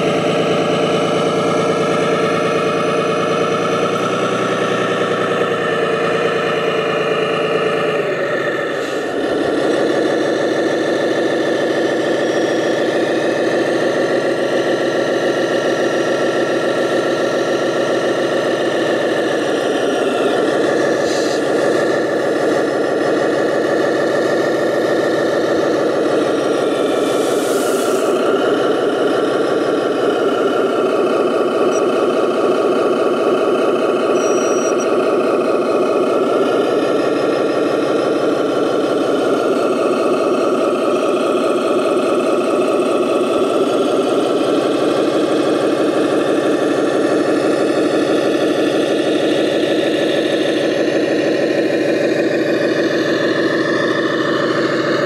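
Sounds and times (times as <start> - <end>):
simulated diesel engine running: 0.0 - 55.0.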